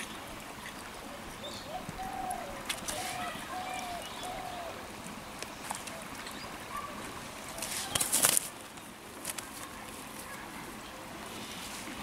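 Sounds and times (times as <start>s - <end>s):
fish and wet net rustling: 1.8s - 12.0s.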